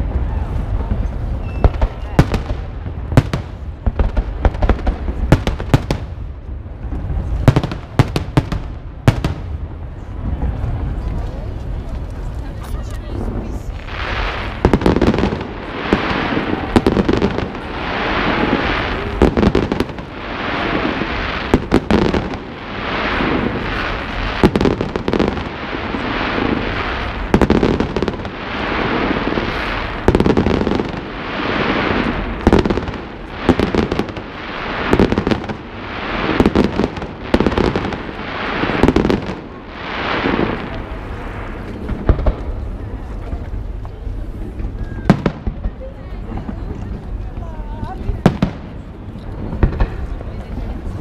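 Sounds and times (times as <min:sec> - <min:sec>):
fireworks bangs: 0:00.0 - 0:51.0
fireworks rumbling: 0:00.0 - 0:51.0.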